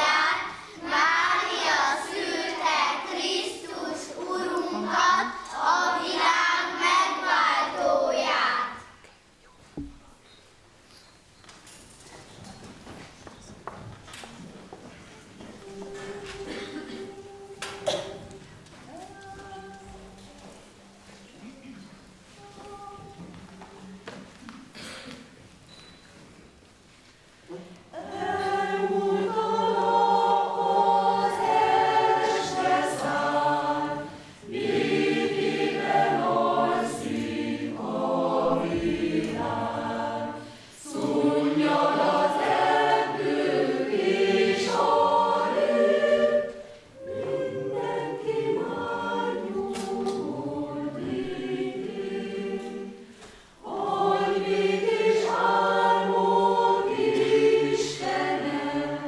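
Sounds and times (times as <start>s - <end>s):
mixed choir singing a hymn: 0.0s - 9.0s, 14.3s - 25.0s, 27.5s - 59.0s.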